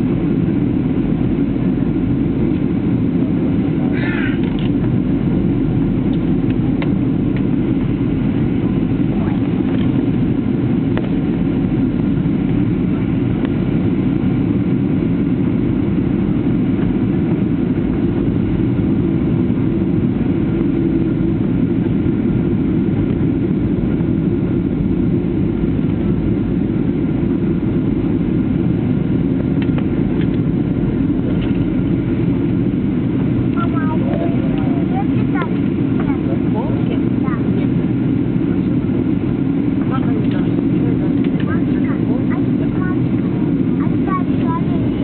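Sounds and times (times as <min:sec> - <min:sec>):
jet engine cabin drone: 0:00.0 - 0:45.0.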